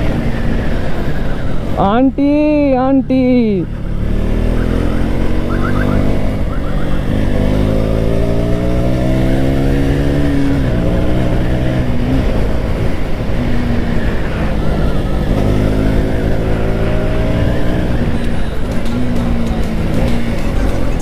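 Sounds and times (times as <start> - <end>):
motorcycle engine accelerating: 3.1 - 21.0.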